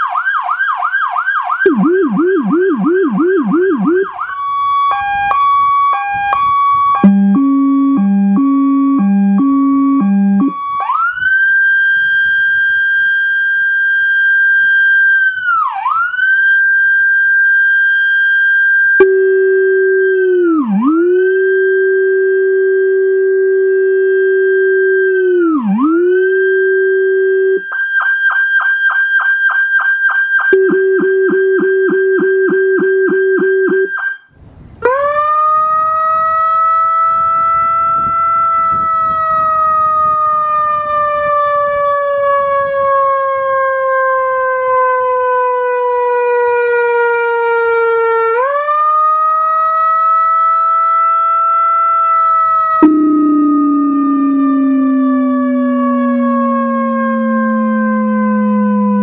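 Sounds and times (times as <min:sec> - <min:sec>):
deep low-frequency siren tone: 0:00.0 - 0:59.0
electronic siren wail: 0:00.0 - 0:59.0
fast pulsing siren tone: 0:00.0 - 0:59.0
mechanical siren wail: 0:00.0 - 0:59.0
two-tone hi-lo siren: 0:00.0 - 0:59.0.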